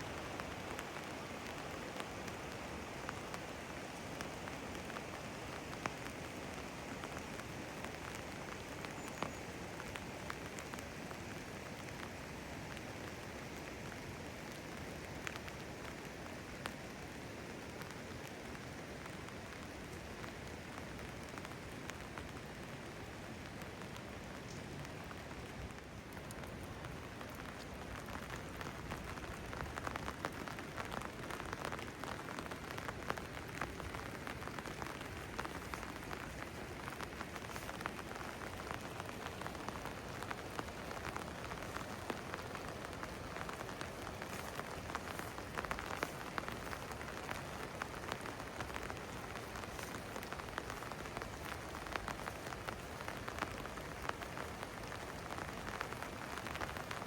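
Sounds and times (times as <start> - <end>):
raindrops ticking on surfaces: 0.0 - 57.0
steady rain falling: 0.0 - 57.0.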